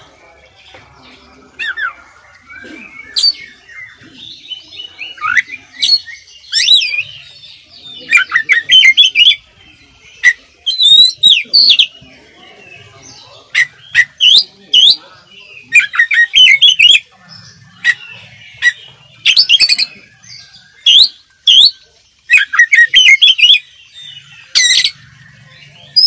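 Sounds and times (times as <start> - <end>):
bird singing whistled notes: 1.0 - 26.0.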